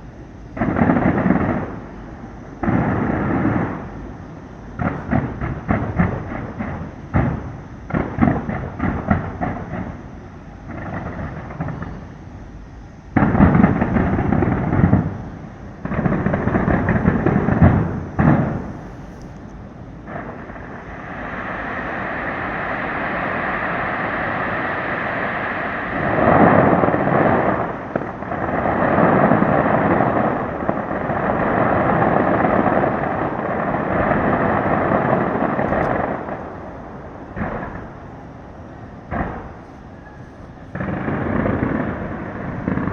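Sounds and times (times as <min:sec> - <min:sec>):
sharp firework bangs: 0:00.6 - 0:02.0, 0:02.6 - 0:04.1, 0:04.8 - 0:12.1, 0:13.1 - 0:19.4, 0:20.0 - 0:42.9
fireworks barrage: 0:00.6 - 0:12.2, 0:13.1 - 0:42.9.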